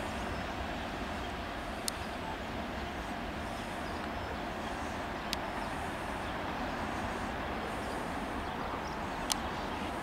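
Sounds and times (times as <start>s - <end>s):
distant train rumbling over points: 0.0s - 10.0s.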